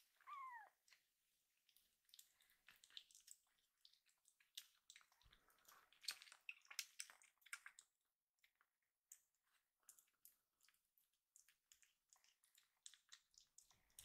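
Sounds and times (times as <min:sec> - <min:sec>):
kitten suckling wet smacking: 0:01.7 - 0:08.0, 0:09.1 - 0:14.0.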